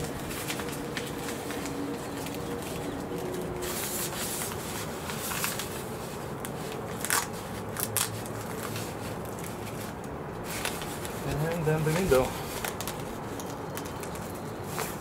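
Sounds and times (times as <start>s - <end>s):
fabric sharp crackles: 0.0s - 15.0s
synthetic fabric rustling and crinkling: 0.0s - 15.0s.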